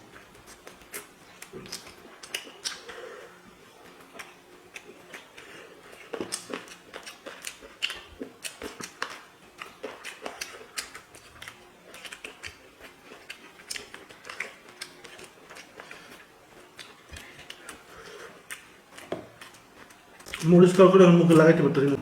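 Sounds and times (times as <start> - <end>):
chewing and lip-smacking: 0.0 - 22.0.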